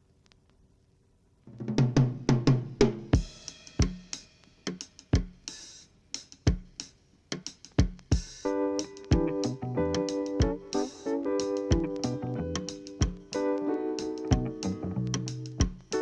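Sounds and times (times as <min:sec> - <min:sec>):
drum kit playing: 0:01.6 - 0:16.0.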